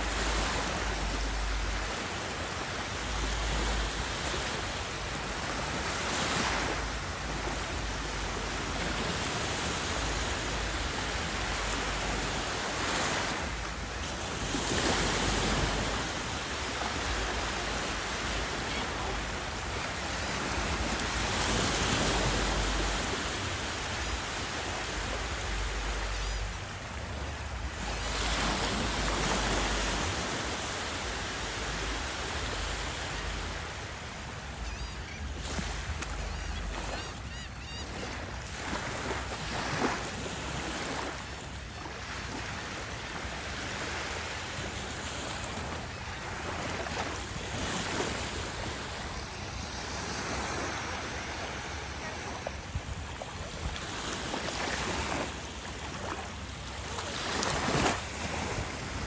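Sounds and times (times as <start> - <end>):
waves washing on beach: 0.0 - 59.0.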